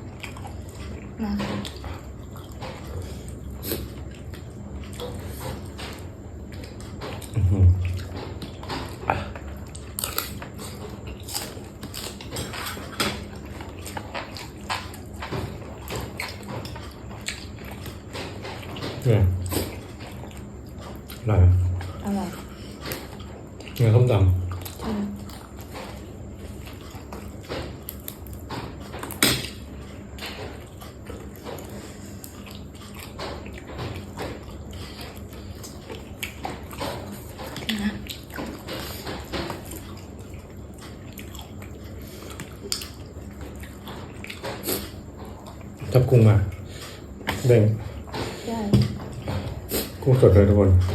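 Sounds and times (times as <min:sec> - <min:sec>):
chewing and crunching vegetables: 0:00.0 - 0:50.9.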